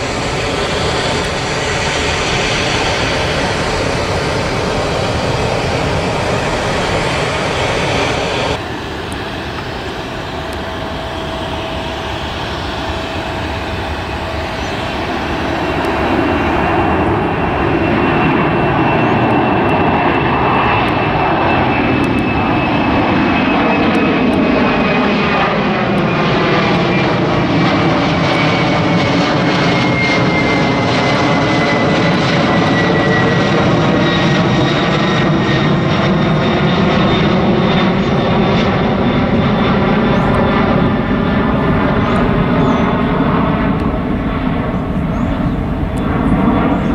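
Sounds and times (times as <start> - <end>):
jet engine roar: 0.0 - 46.9.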